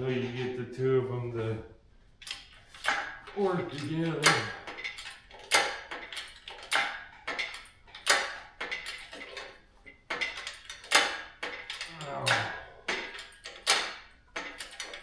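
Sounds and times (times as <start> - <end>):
metallic clicks and clanks: 2.2 - 15.0.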